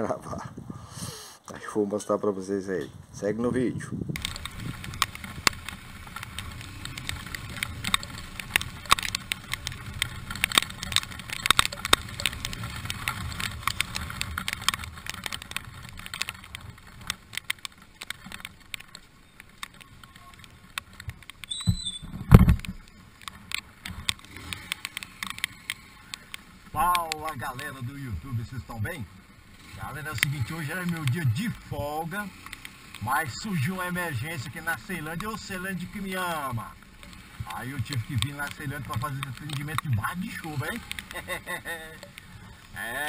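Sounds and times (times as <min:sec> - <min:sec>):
motorcycle engine and road rumble: 0:01.6 - 0:43.0
raindrops ticking on camera: 0:04.2 - 0:43.0.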